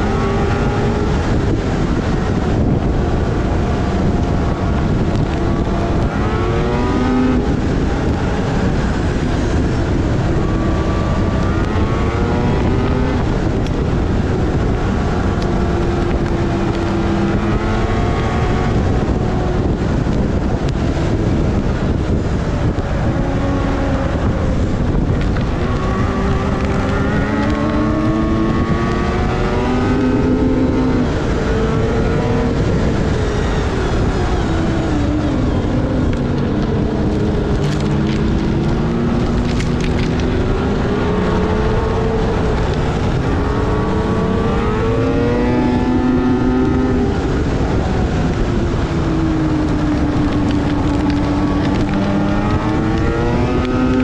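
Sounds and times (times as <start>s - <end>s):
snowmobile engine revving: 0.0s - 19.8s, 21.0s - 54.0s
steady rushing noise: 0.0s - 54.0s.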